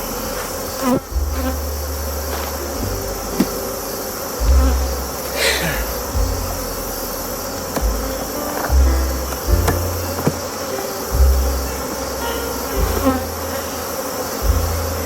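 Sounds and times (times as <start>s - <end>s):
bees buzzing: 0.0s - 15.0s
low rumbling bumps: 0.0s - 15.0s.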